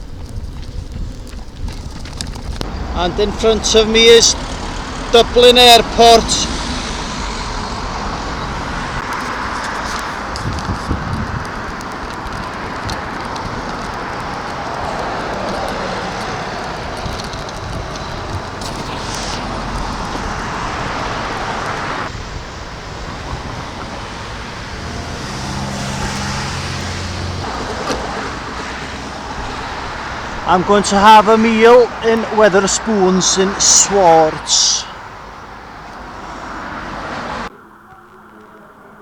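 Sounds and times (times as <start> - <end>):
low engine hum: 0.0 - 39.0
road traffic noise: 0.0 - 39.0.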